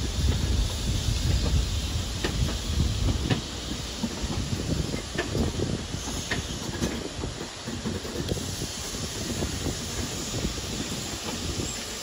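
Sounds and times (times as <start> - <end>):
train wheels rumbling on rail: 0.0 - 12.0
wheels clicking over rail joints: 0.0 - 12.0.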